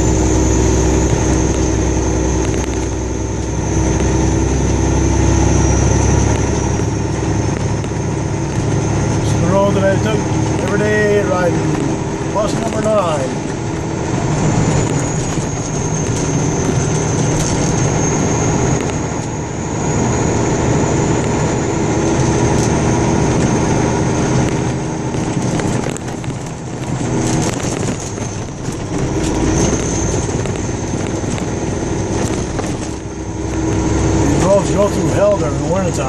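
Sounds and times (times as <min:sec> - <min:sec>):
car engine hum: 0:00.0 - 0:36.0
tyre noise on road: 0:00.0 - 0:36.0.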